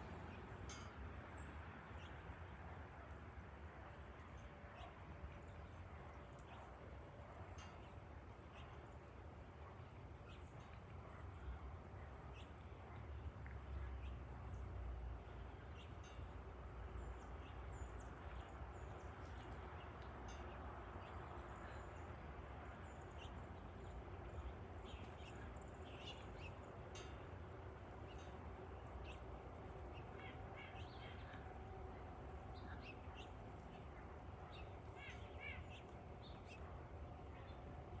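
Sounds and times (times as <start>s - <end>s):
birds chirping: 7.5s - 38.0s.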